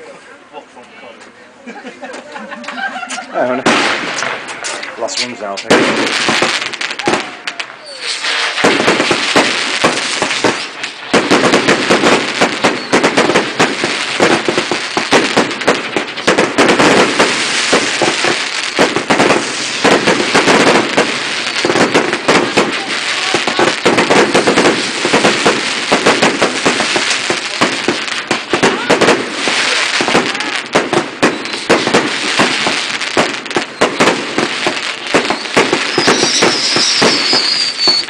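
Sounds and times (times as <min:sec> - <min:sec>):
fireworks bangs and crackles: 0:02.7 - 0:38.0.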